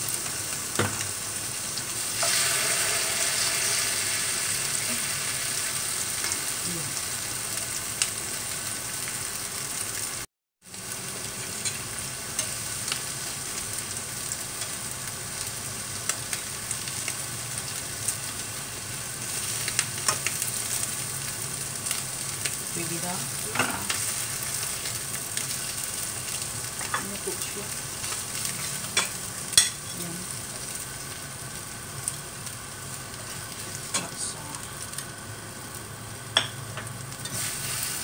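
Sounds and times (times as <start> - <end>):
fritters sizzling in oil: 0.0 - 38.0.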